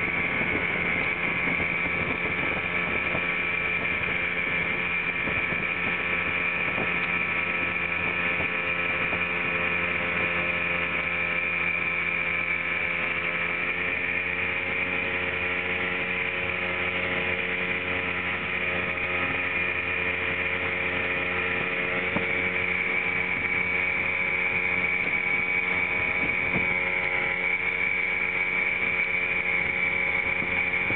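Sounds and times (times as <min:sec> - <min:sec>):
motorboat engine droning: 0:00.0 - 0:30.9.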